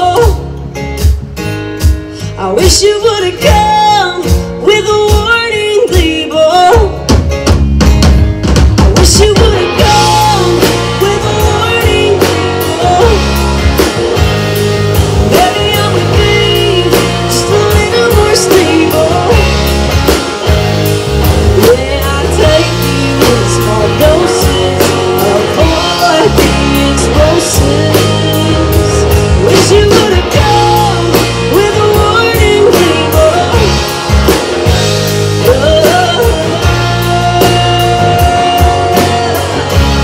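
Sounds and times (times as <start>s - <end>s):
bass guitar: 0.0s - 40.0s
drum kit beat: 0.0s - 40.0s
electric guitar lead: 0.0s - 40.0s.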